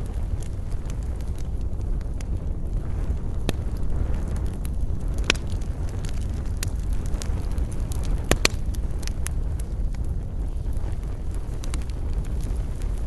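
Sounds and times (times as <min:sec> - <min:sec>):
campfire crackling and popping: 0:00.0 - 0:13.0
low rumble: 0:00.0 - 0:13.0.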